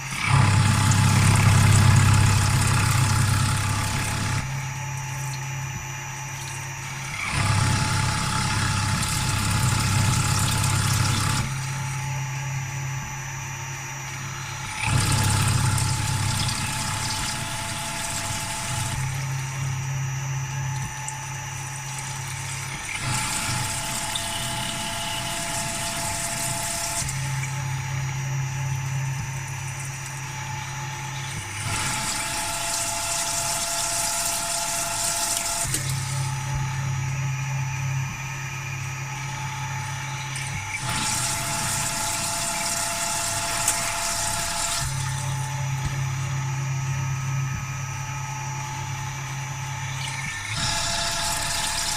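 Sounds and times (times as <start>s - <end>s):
machine hum and hiss: 0.0s - 51.9s
milling machine whine: 0.0s - 51.9s.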